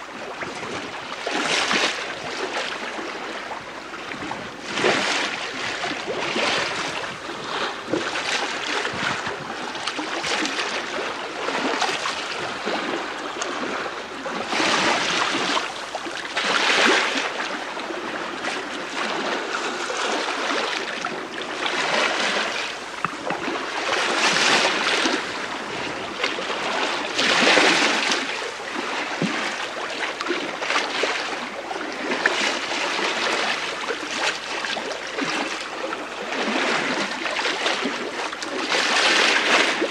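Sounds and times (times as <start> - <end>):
water washing along hull: 0.0 - 39.9.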